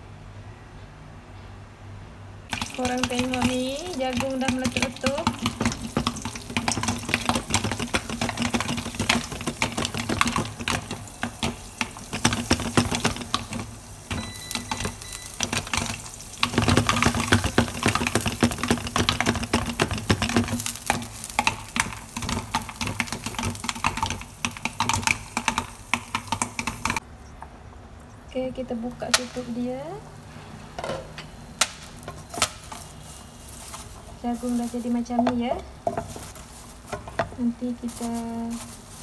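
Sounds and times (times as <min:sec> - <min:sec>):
popcorn popping in pot: 0:02.5 - 0:27.0, 0:28.3 - 0:30.2, 0:30.8 - 0:39.0.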